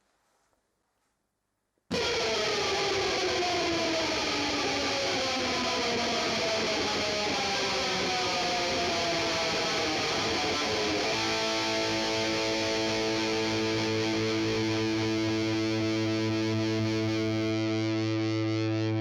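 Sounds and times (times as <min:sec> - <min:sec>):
distorted electric guitar: 0:01.9 - 0:19.0.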